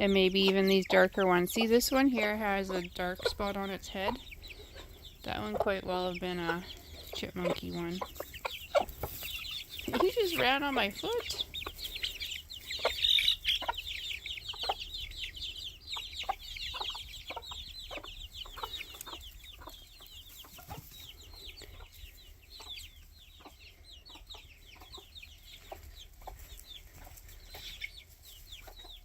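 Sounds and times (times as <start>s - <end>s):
chicks peeping: 0.0s - 29.0s
hen clucking: 0.0s - 29.0s.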